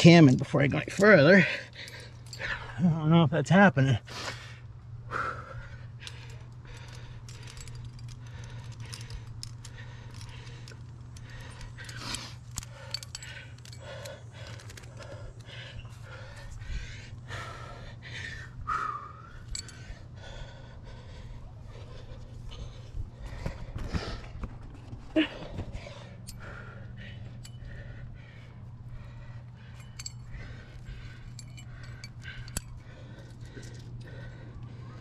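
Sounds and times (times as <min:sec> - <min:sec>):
metal climbing gear clinking: 0:00.0 - 0:04.6, 0:05.3 - 0:35.0
person breathing hard: 0:01.3 - 0:02.8, 0:04.0 - 0:35.0.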